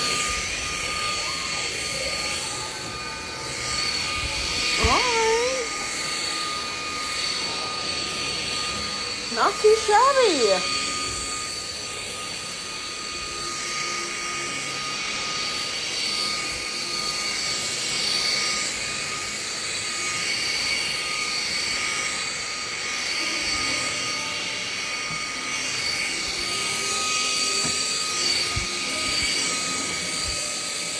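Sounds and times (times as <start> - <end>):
vacuum cleaner motor whine: 0.0 - 30.9.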